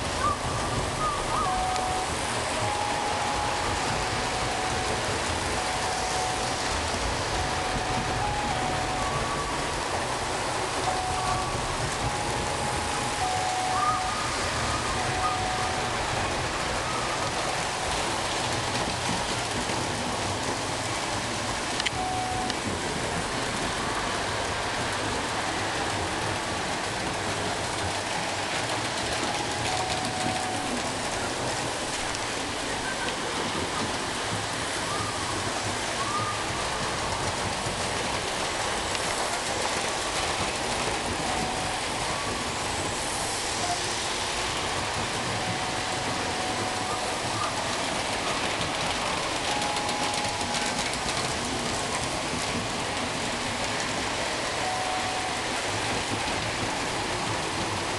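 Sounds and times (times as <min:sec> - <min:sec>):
model trains clattering: 0:00.0 - 0:57.9.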